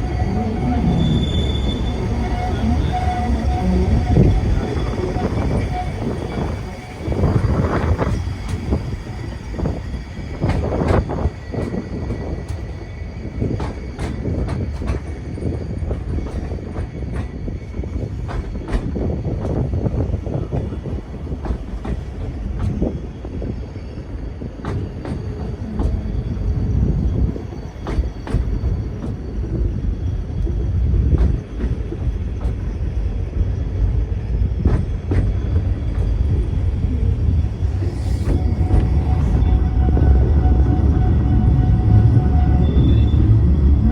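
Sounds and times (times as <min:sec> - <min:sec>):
tramcar rumbling on rails: 0:00.0 - 0:43.9.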